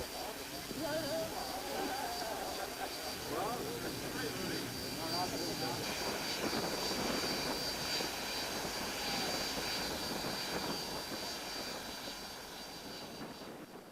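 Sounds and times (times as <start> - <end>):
jet engine running: 0.0 - 13.9.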